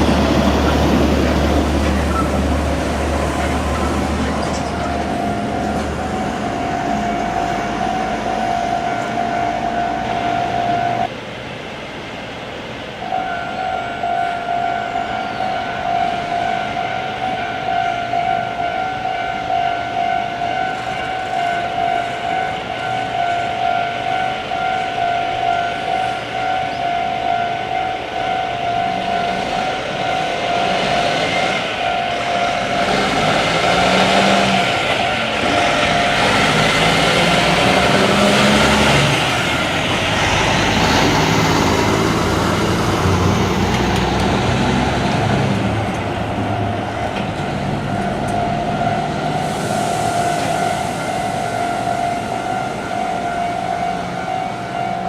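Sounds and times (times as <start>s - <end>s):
heavy truck approaching: 0.0s - 11.2s, 18.9s - 55.0s
level-crossing alarm tone: 4.8s - 11.1s, 13.0s - 42.5s, 46.4s - 55.0s.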